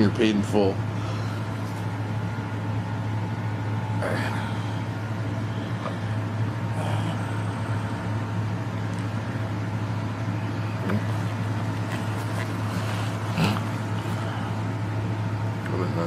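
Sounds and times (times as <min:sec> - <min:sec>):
box fan whirring: 0:00.0 - 0:16.0.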